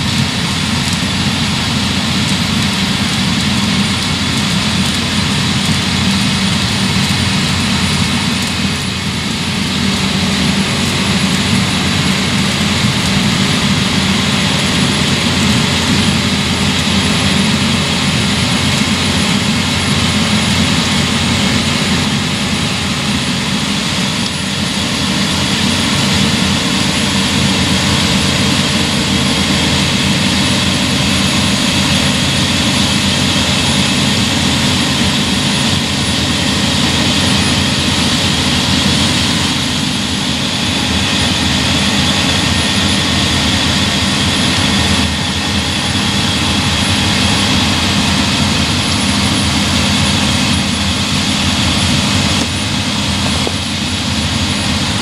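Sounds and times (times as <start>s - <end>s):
broad rushing noise: 0.0s - 55.0s
combine harvester engine drone: 0.0s - 55.0s
thin high whine: 0.0s - 55.0s.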